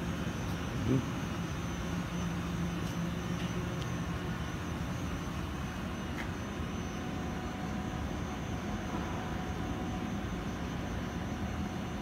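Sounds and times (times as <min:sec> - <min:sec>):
high-pitched machine whine: 0:00.0 - 0:12.0
machinery humming: 0:00.0 - 0:12.0.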